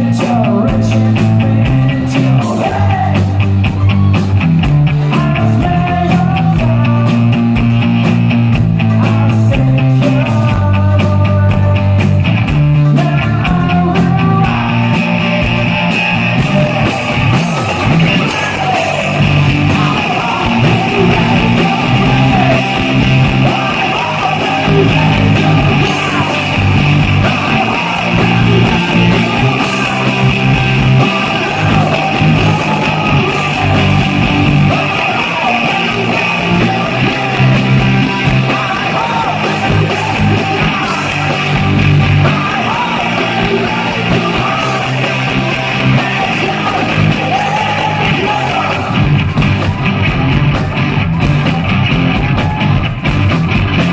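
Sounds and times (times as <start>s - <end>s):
bass guitar: 0.0s - 53.9s
driving drum beat: 0.0s - 53.9s
electric guitar: 0.0s - 53.9s.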